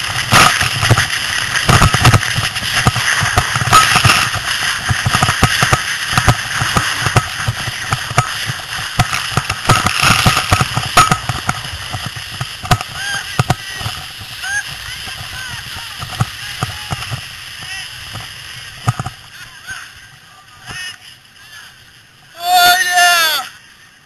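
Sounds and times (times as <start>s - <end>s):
sled knocks and jolts: 0.0s - 20.9s
sled runners scraping over snow: 0.0s - 23.0s.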